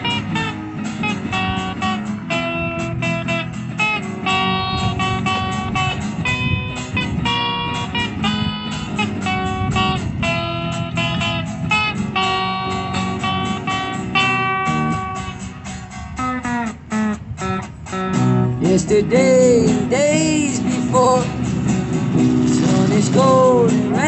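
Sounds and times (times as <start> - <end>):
band playing short chords: 0.0 - 24.0
live rock band playing: 0.0 - 24.0.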